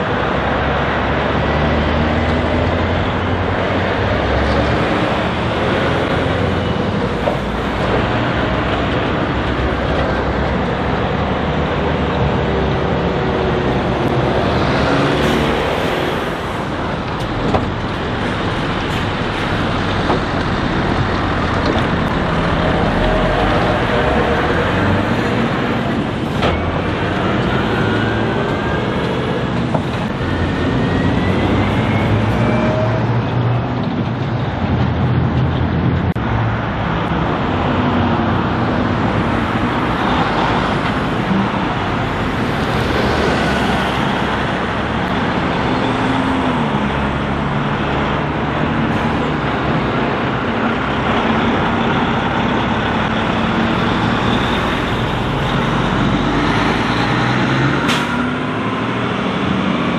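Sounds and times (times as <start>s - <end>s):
heavy diesel trucks revving: 0.0s - 59.9s
road traffic noise: 0.0s - 59.9s.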